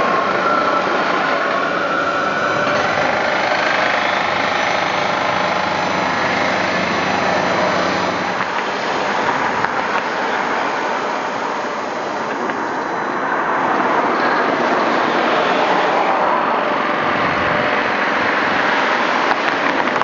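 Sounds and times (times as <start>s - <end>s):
tram rumbling past: 0.0s - 20.0s.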